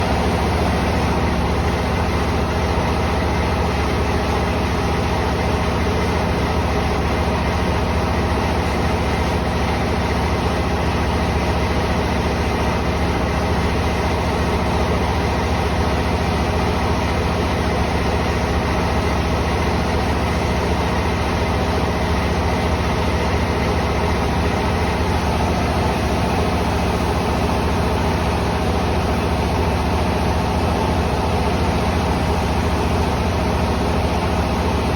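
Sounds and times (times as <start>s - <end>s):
mill machinery humming: 0.0s - 34.9s.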